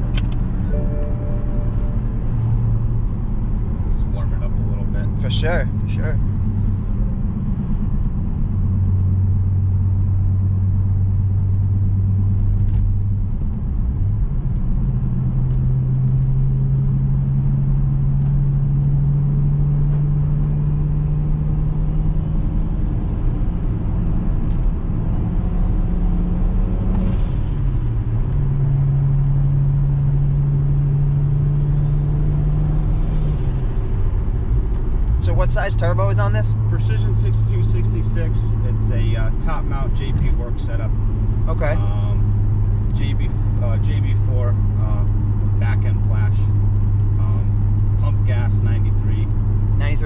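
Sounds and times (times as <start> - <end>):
car engine droning: 0.0 - 50.0.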